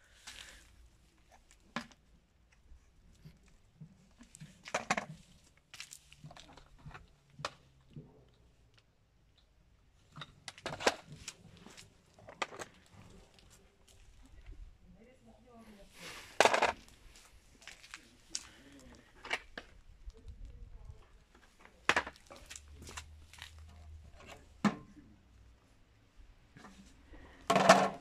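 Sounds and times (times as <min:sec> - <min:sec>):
plastic hubcaps handled on concrete: 0:00.1 - 0:09.4, 0:10.0 - 0:14.6, 0:16.3 - 0:24.9, 0:26.5 - 0:28.0.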